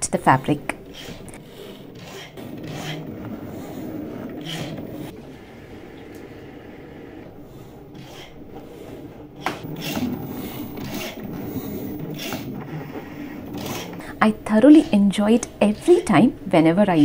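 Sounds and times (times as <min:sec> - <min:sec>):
cutting machine motor whir: 0:00.0 - 0:17.0
rubbing and scraping of carriage: 0:00.0 - 0:17.0.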